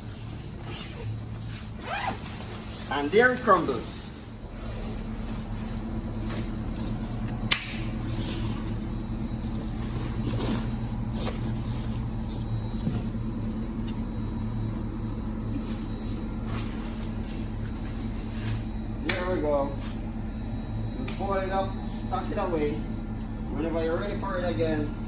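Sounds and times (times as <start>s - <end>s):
blower fan humming: 0.0s - 25.0s.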